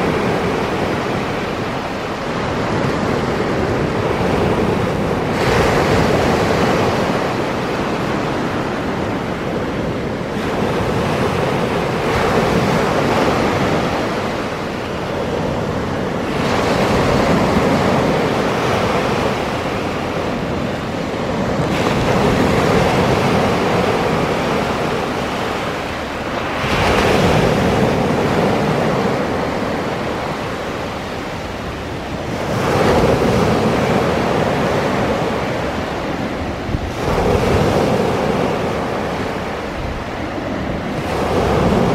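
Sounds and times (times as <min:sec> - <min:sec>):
sea waves breaking on shore: 0:00.0 - 0:41.9.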